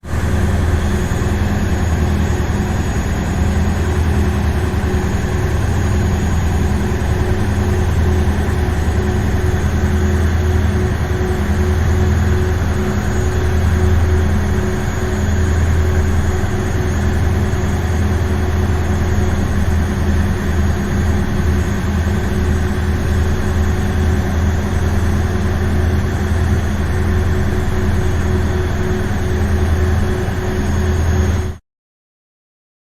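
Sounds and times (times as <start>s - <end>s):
ferry engine drone: 0.0s - 31.6s.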